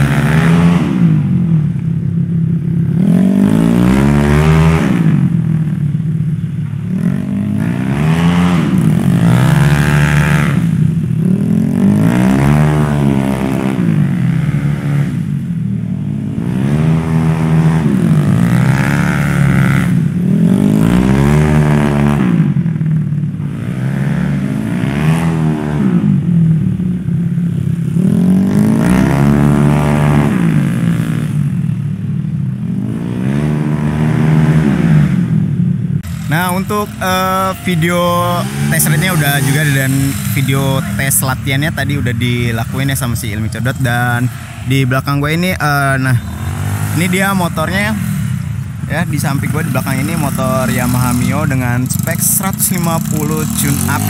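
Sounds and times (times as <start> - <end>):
scooter engine revving: 0.0 - 54.0.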